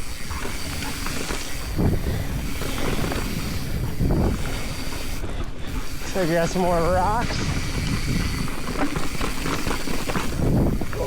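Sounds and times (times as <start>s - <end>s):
bike tyre rumble and rattle: 0.0s - 11.0s
wind rush on microphone: 0.0s - 11.0s.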